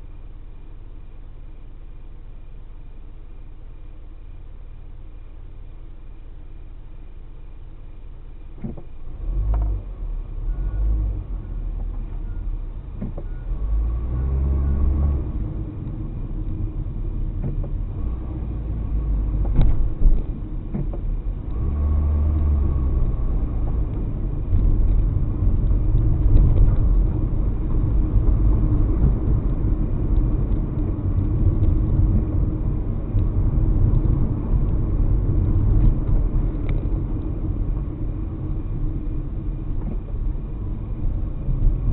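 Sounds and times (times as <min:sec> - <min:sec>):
car engine and road rumble: 0:00.0 - 0:41.9.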